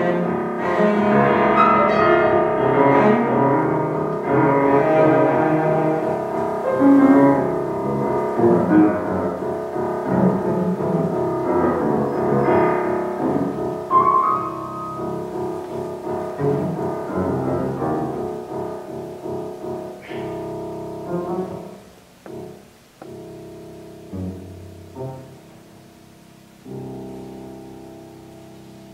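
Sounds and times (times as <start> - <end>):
cello: 0.0 - 28.9
piano: 0.0 - 28.9.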